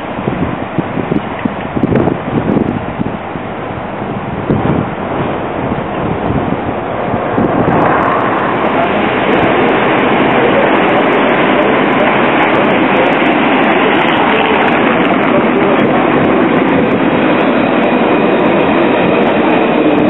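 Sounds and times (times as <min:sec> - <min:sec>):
tram rolling on street track: 0:00.0 - 0:20.0
wind buffeting microphone: 0:00.0 - 0:20.0.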